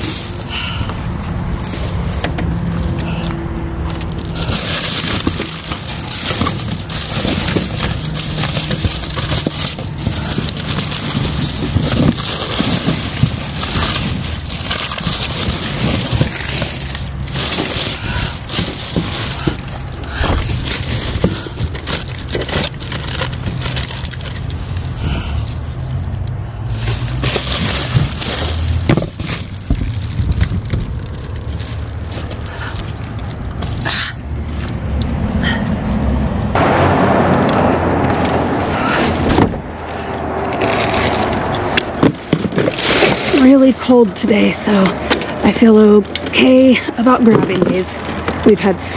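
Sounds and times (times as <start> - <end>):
plastic bags crinkling and rustling: 0.0 - 36.0, 40.4 - 48.9.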